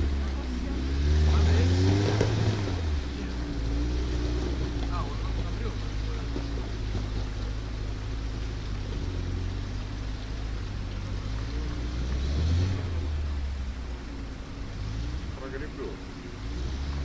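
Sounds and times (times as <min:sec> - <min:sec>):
engine droning under load: 0:00.0 - 0:17.0.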